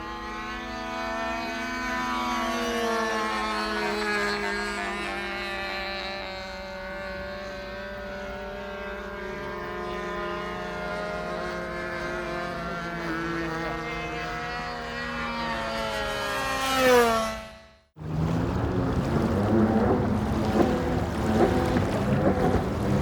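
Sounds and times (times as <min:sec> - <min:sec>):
model aircraft engine drone: 0:00.0 - 0:23.0.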